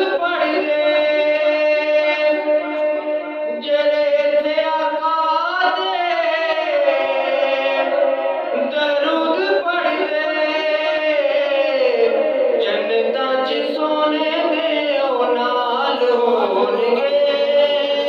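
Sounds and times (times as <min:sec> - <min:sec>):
man singing into microphone: 0:00.0 - 0:18.0.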